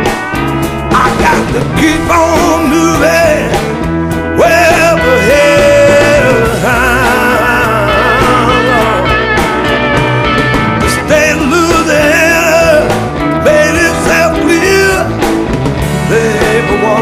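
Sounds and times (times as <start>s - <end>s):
rock music with gliding lead: 0.0s - 17.0s.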